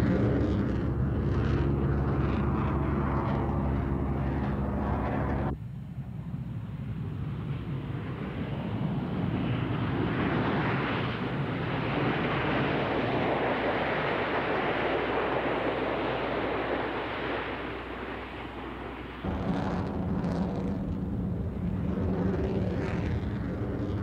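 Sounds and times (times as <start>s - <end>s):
aircraft engine rushing: 0.0s - 24.0s.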